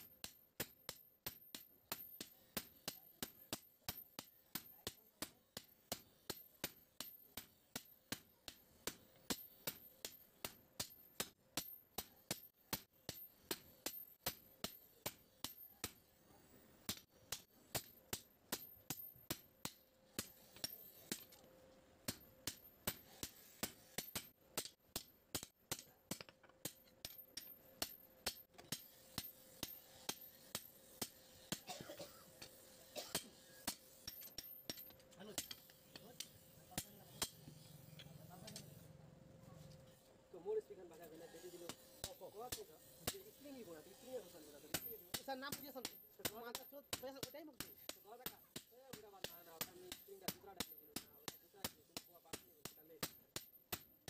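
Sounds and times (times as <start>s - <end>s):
hammer striking hot metal on anvil: 0.0s - 38.9s, 41.0s - 54.0s.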